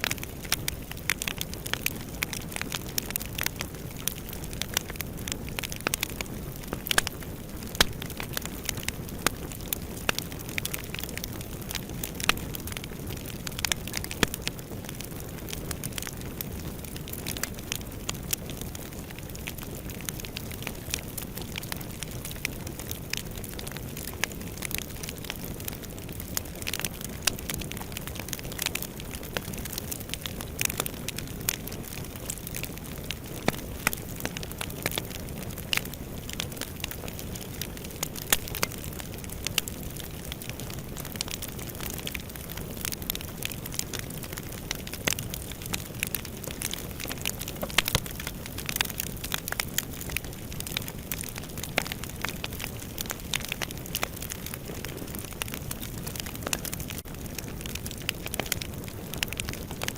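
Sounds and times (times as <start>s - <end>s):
fire burning in fireplace: 0.0s - 59.9s
fire crackles and pops: 0.0s - 59.9s.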